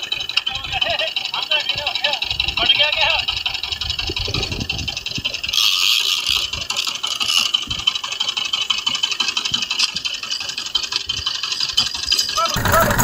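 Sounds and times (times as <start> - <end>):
boat engine rattling: 0.0 - 13.0.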